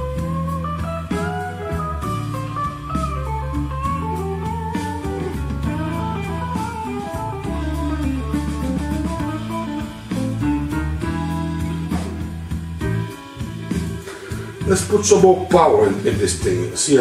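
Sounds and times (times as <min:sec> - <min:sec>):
guitar-led music with drums: 0:00.0 - 0:17.0.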